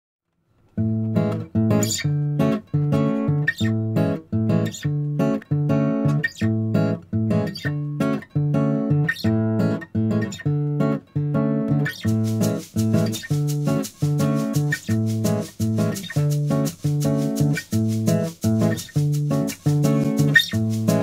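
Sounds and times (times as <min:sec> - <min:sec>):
acoustic guitar strumming chords: 0:00.8 - 0:21.0.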